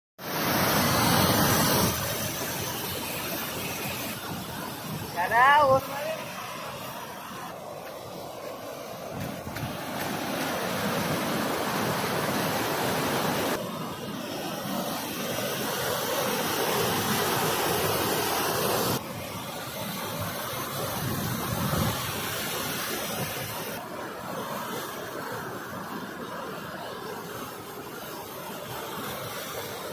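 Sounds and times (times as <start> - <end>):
rushing water: 0.2 - 29.9.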